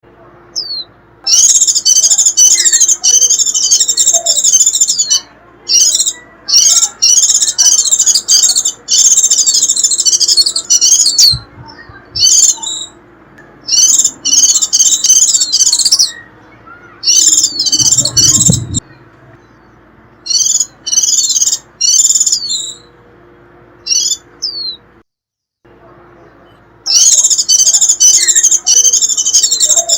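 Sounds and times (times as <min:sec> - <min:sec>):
bird squeaky chattering song: 0:00.6 - 0:13.0, 0:13.6 - 0:18.9, 0:19.5 - 0:22.9, 0:23.8 - 0:24.8, 0:26.8 - 0:29.9.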